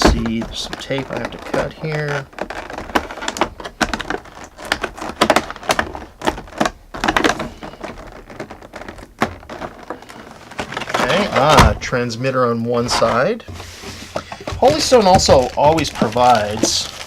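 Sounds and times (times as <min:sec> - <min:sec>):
packaging rustling and clicking: 0:00.0 - 0:17.0.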